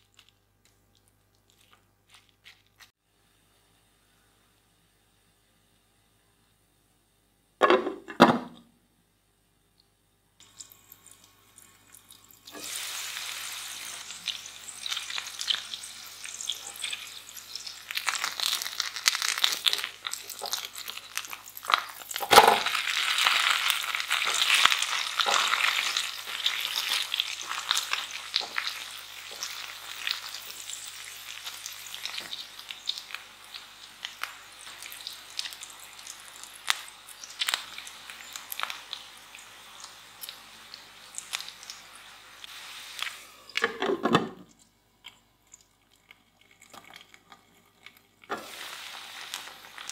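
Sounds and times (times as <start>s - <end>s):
potato and egg sizzling in oil: 0.0s - 5.3s, 10.4s - 49.9s.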